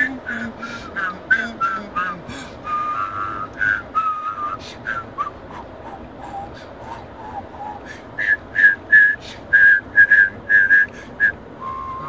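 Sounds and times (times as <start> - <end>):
steady background rumble: 0.0 - 12.0
person whistling a tune: 1.0 - 7.0, 7.7 - 12.0.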